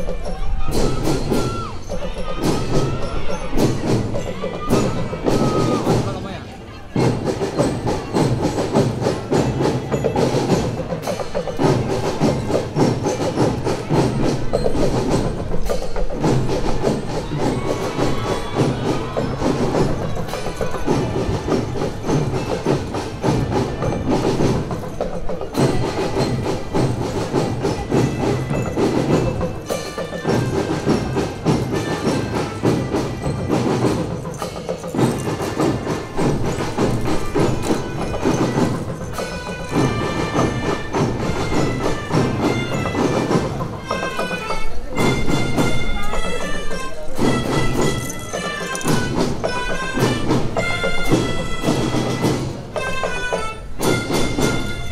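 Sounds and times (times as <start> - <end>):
bell-like melody: 0.0 - 54.9
drums beating: 0.0 - 54.9
marching band playing: 0.0 - 54.9.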